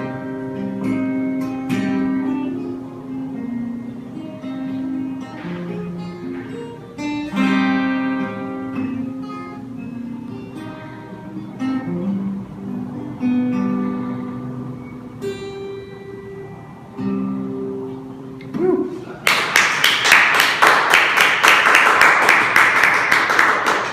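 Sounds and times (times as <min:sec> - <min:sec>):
acoustic guitar strumming: 0:00.0 - 0:19.3.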